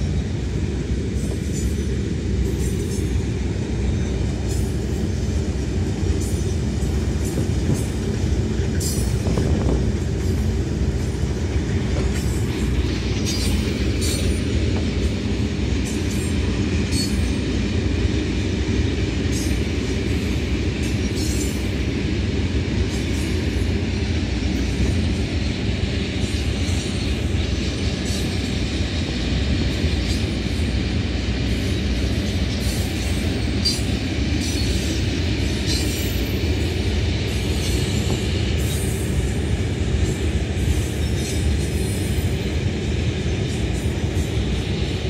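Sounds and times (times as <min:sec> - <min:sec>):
freight train rumbling past: 0:00.0 - 0:45.0.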